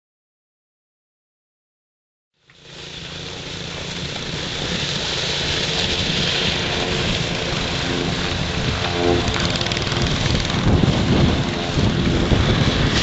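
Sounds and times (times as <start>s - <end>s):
atv engine running: 2.5s - 13.0s.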